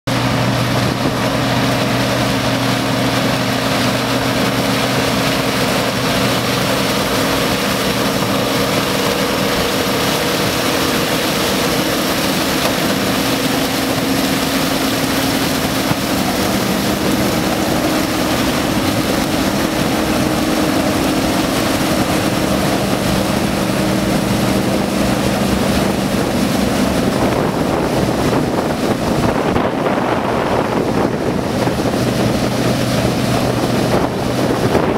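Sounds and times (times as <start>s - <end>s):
combine engine humming: 0.0s - 34.9s
machinery rushing noise: 0.1s - 34.9s.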